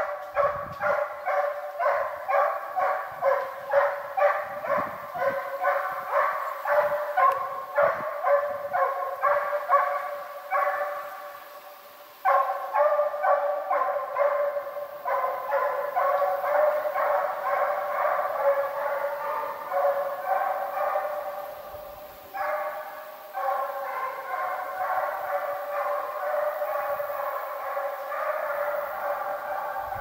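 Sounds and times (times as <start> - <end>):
hounds baying: 0.0 - 11.5, 12.2 - 30.0.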